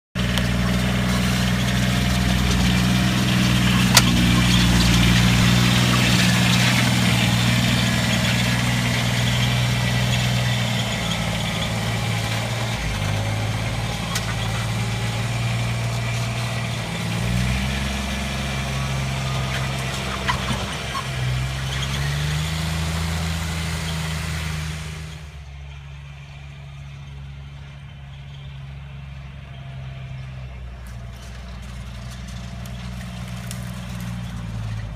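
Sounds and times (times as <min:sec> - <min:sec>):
vehicle engine revving: 0:00.1 - 0:34.9.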